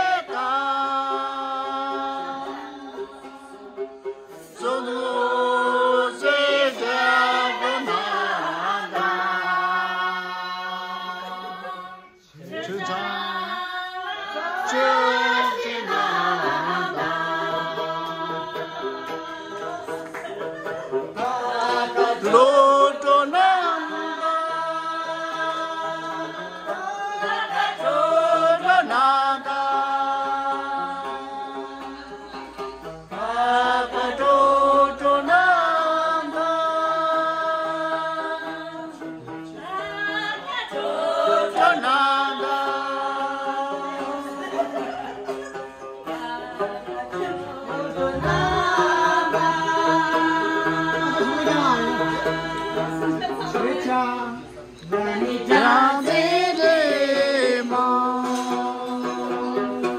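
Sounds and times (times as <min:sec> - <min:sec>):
person singing long held notes: 0:00.0 - 0:20.0, 0:20.6 - 0:45.0, 0:46.0 - 0:59.9
instrumental accompaniment: 0:00.0 - 0:59.9.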